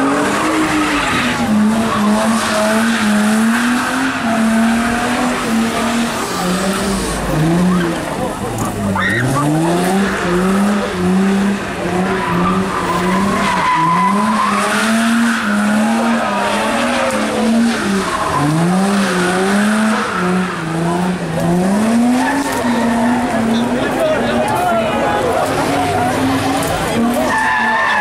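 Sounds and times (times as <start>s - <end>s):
car engine revving hard: 0.0s - 24.4s
tyres squealing on asphalt: 0.0s - 28.0s.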